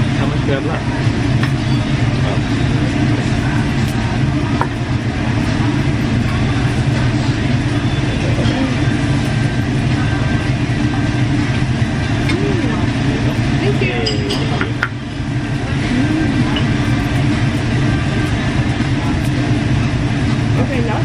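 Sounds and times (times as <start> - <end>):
ventilation hum: 0.0 - 21.0.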